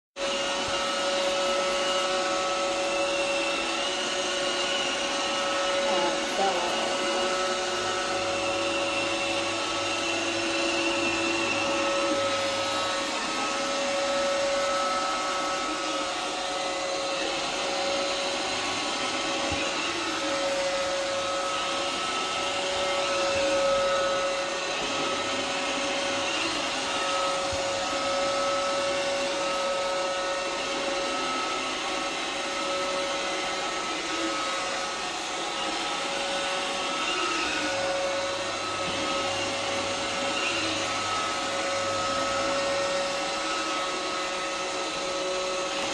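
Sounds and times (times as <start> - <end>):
robot vacuum whirring: 0.2 - 45.9.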